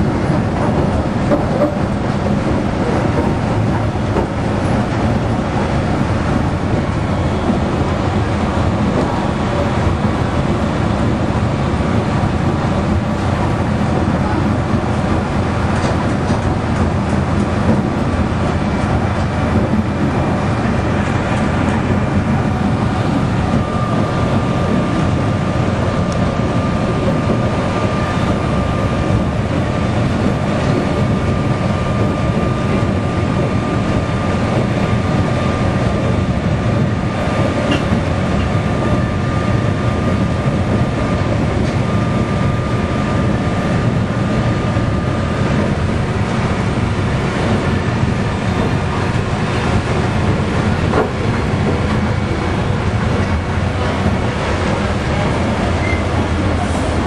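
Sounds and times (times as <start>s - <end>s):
diesel locomotive running: 0.0s - 57.0s
train wheels on rails: 0.0s - 57.0s.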